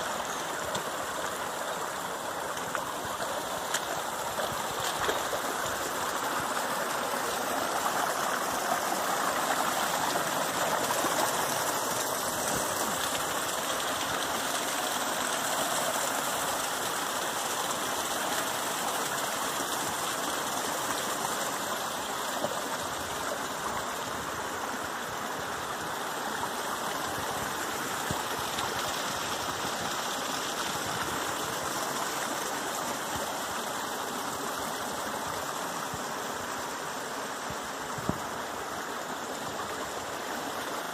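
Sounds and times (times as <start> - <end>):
stream splashing over rocks: 0.0 - 40.9.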